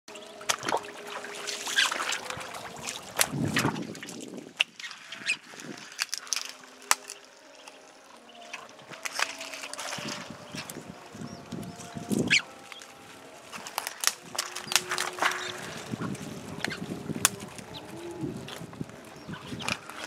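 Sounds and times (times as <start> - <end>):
ducks rustling through leaf litter: 0.1 - 20.0.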